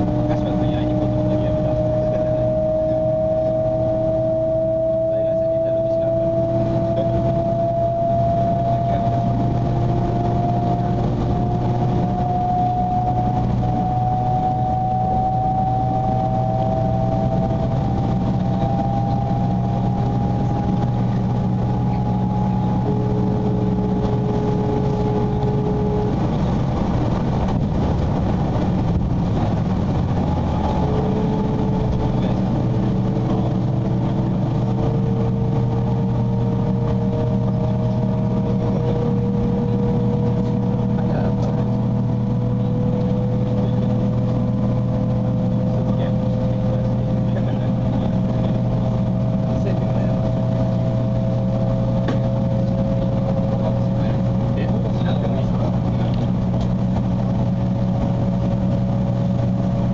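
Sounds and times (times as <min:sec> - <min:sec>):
low rumble of running gear: 0:00.0 - 0:59.9
train motors whining: 0:00.0 - 0:59.9.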